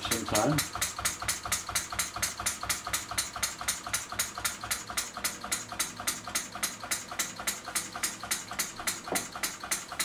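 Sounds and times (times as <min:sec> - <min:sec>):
model diesel engine running: 0:00.0 - 0:10.0.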